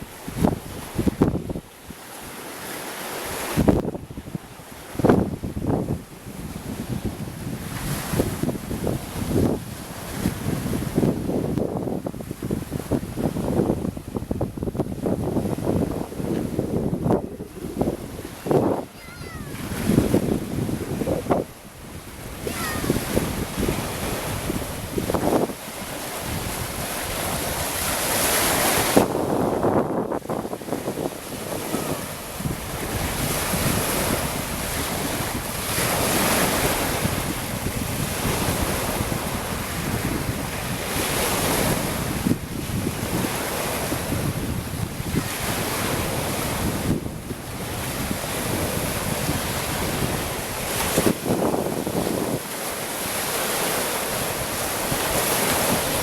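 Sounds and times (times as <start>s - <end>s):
wind buffeting microphone: 0.0s - 2.0s, 3.3s - 56.0s
surf washing onto shore: 0.0s - 56.0s.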